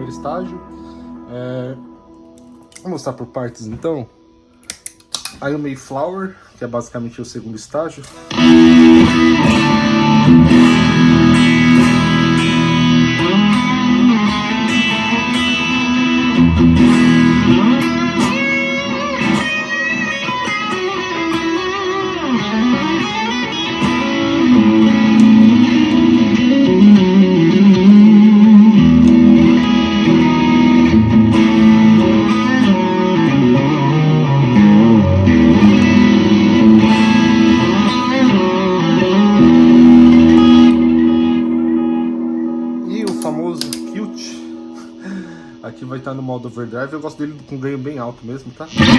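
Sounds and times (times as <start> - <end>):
overdriven electric guitar: 0.0 - 5.5, 8.0 - 46.4, 48.4 - 48.9.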